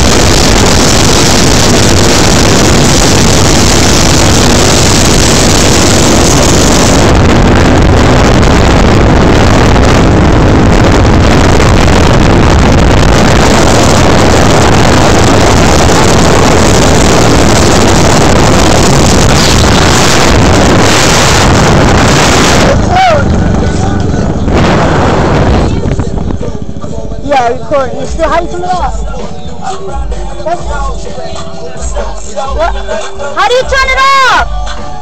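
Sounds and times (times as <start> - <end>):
quad engine running: 0.0 - 29.0
wind rumble on microphone: 0.0 - 29.0.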